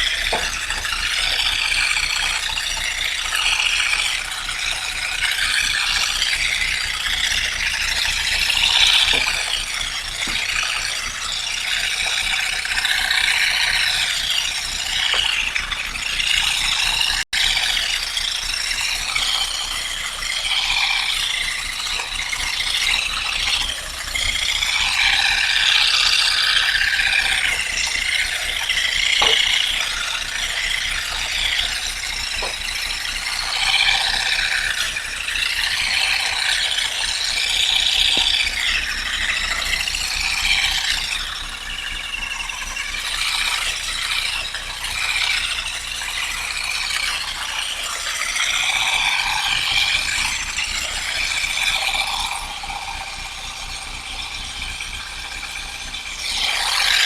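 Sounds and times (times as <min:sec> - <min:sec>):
olives and leaves rattling: 0:00.0 - 0:57.0.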